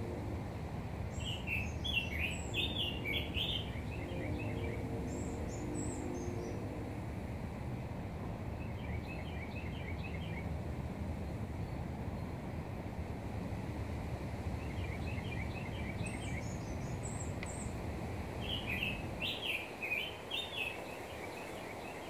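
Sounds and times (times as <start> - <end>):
songbirds chirping: 0.9 - 22.0.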